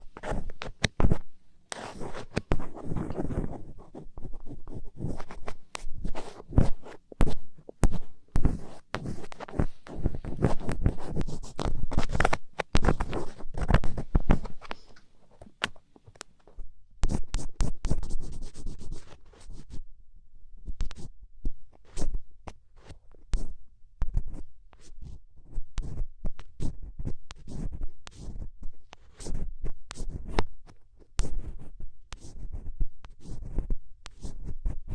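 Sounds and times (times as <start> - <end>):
scratching on microphone: 0.1 - 15.4, 17.1 - 19.8, 21.8 - 22.2, 24.1 - 34.9.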